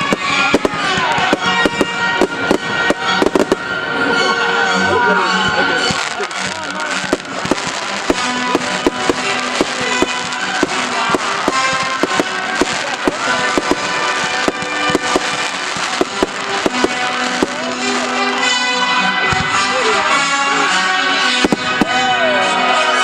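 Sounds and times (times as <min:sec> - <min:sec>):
fireworks cracking: 0:00.0 - 0:04.4, 0:05.3 - 0:23.0
music with held notes: 0:00.0 - 0:23.0.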